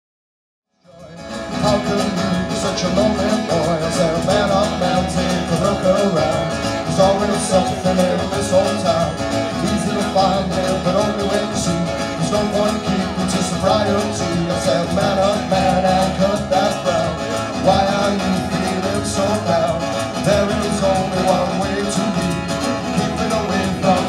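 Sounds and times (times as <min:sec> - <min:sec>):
guitar: 0:00.8 - 0:24.0
live band playing: 0:00.9 - 0:24.0.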